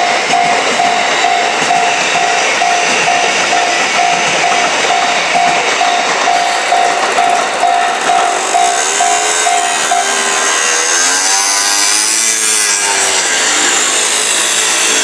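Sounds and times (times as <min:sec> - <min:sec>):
level-crossing warning bell: 0:00.0 - 0:15.0
train running over rails: 0:00.0 - 0:15.0
train wheels squealing: 0:00.0 - 0:15.0.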